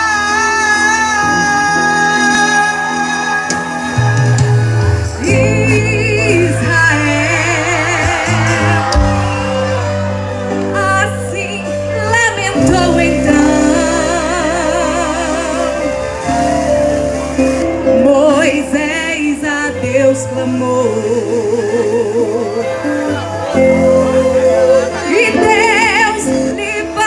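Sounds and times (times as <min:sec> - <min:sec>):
gospel band music: 0:00.0 - 0:27.0
woman singing with vibrato: 0:00.0 - 0:27.0.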